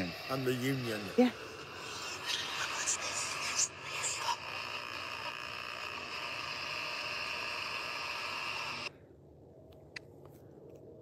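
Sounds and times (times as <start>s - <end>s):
held radio tones: 0.0s - 8.9s
radio static hiss: 0.0s - 8.9s.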